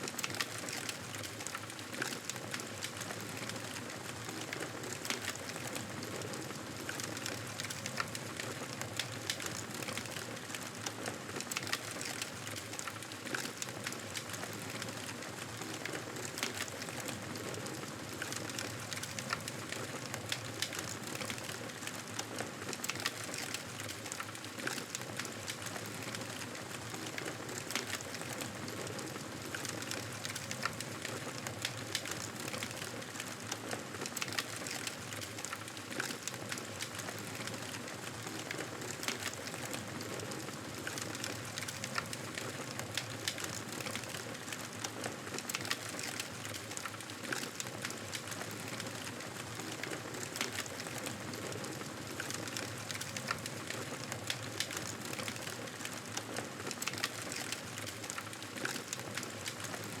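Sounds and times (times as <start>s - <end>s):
wood fire crackling: 0.1s - 60.0s.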